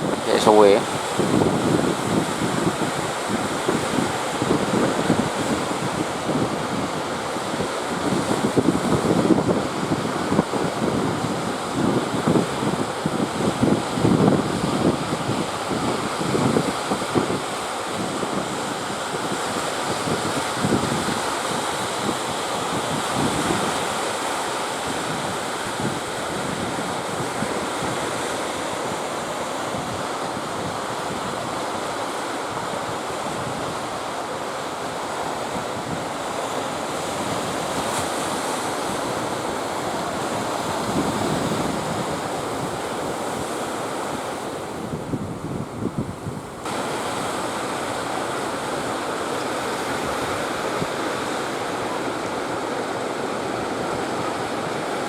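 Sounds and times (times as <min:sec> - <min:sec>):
ocean surf rushing: 0:00.0 - 0:55.0
wind buffeting microphone: 0:00.0 - 0:55.0.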